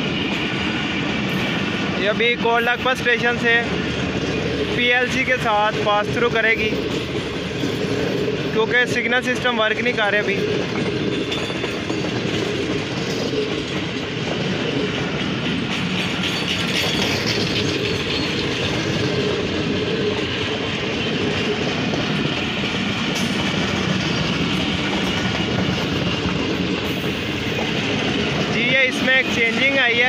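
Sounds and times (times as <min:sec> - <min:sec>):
train wheels rumbling and clattering: 0:00.0 - 0:30.0.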